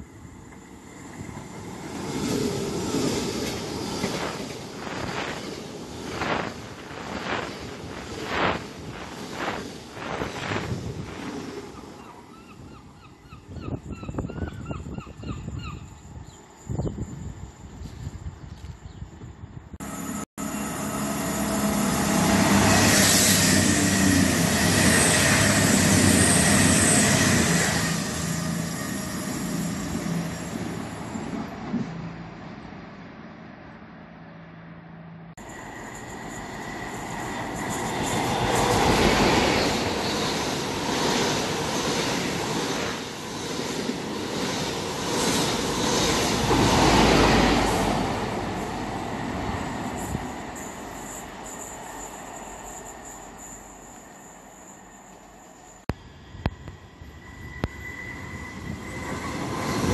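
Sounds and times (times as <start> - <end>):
train wheel noise: 0.0 - 12.3, 19.8 - 32.0, 35.4 - 59.9
diesel train passing at speed: 0.0 - 18.0, 19.4 - 59.9
train engine rumble: 0.0 - 33.7, 35.3 - 59.9.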